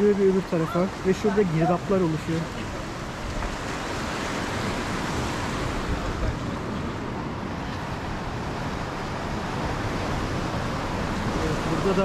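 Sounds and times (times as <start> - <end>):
surf washing against rocks: 0.0 - 12.0
wind gusting on microphone: 0.0 - 12.0.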